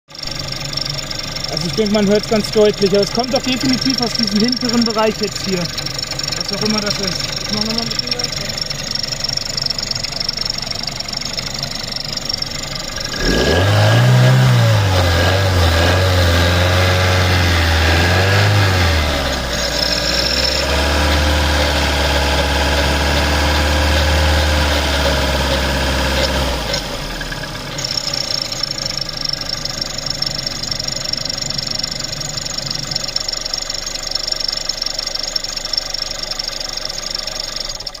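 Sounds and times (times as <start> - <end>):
car engine idling and revving: 0.1 - 38.0
engine squeak and rattle: 0.1 - 38.0.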